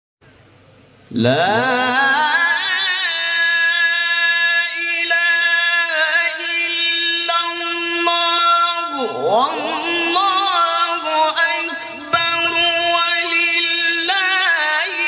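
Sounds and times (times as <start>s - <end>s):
man chanting long held note: 1.1s - 15.0s.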